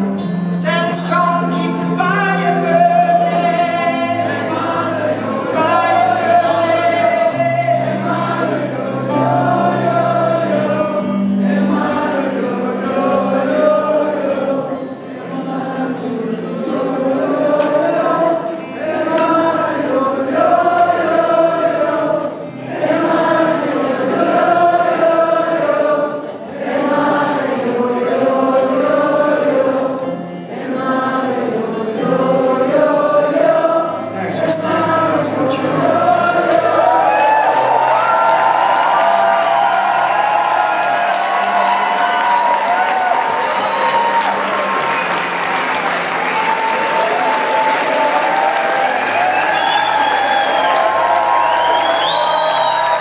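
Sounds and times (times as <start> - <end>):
wordless choir-like singing: 0.0 - 53.0.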